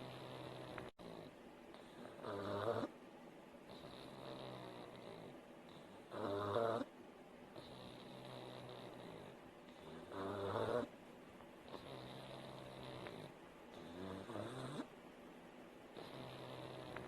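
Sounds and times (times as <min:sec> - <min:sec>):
dog snoring: 0:00.0 - 0:03.0, 0:03.6 - 0:06.9, 0:07.5 - 0:11.0, 0:11.6 - 0:14.9, 0:15.9 - 0:17.0.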